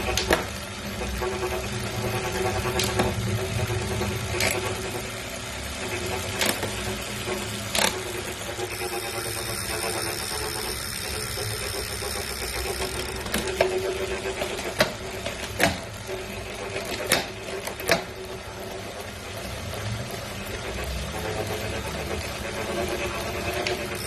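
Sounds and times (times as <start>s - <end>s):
bike trainer grinding hum: 0.0s - 24.0s.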